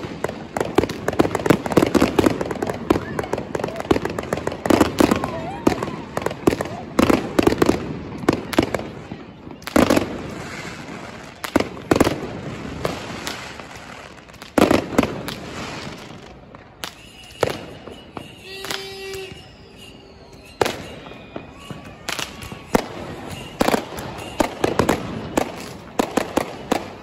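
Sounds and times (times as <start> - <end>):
fireworks exploding: 0.0 - 27.0
rolling echo: 0.0 - 27.0.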